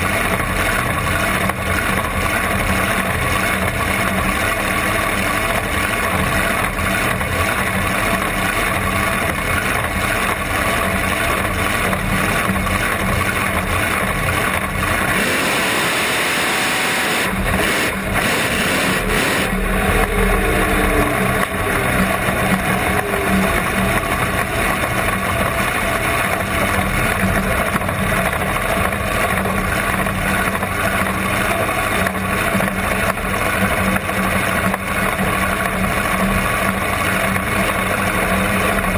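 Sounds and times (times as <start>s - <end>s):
dragster engine idling: 0.0s - 38.9s.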